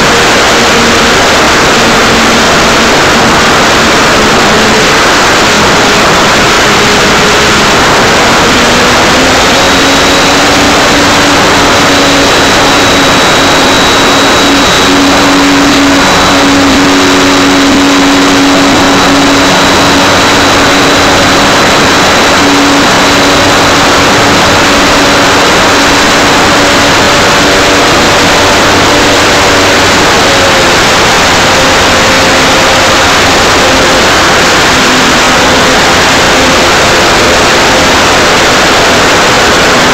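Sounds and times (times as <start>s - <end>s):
model plane motor and propeller: 0.0s - 39.9s
thin high whine: 0.0s - 39.9s.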